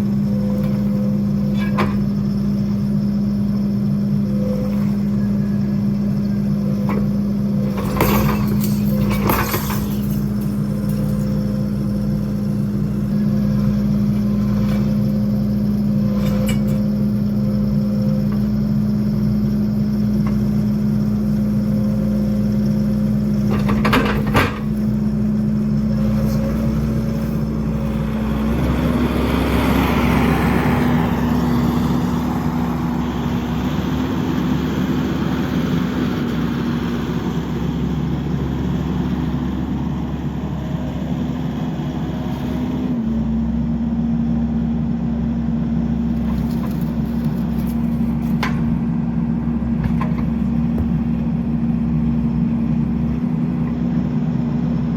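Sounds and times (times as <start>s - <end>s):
skid steer engine running: 0.0s - 54.9s.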